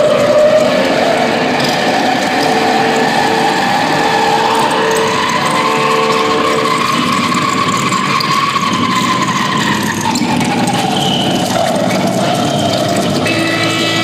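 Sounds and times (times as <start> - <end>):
distorted noise music: 0.0 - 14.0
high tone sliding downward: 0.0 - 14.0.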